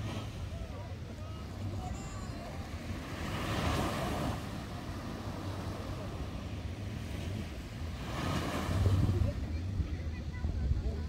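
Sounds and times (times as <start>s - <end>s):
small waves breaking on beach: 0.0s - 11.0s
wind rumbling on microphone: 0.0s - 11.0s.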